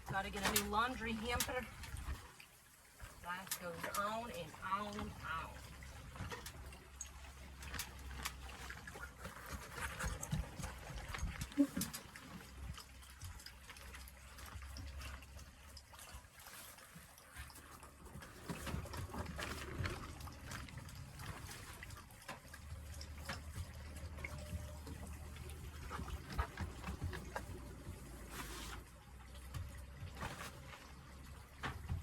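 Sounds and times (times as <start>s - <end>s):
water trickling and pouring: 0.0s - 32.0s.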